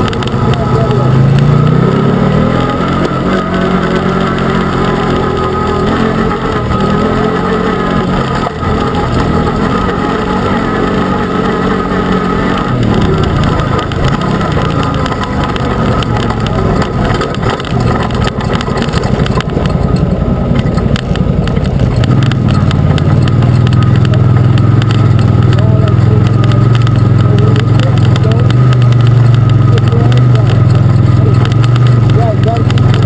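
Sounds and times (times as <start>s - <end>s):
off-road vehicle engine running: 0.0s - 33.0s
short knocks and rattles: 2.9s - 33.0s.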